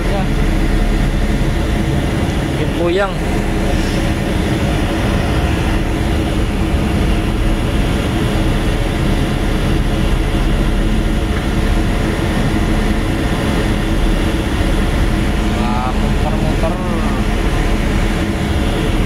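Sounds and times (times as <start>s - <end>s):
tugboat diesel engine rumble: 0.0s - 19.0s
wind: 0.0s - 19.0s.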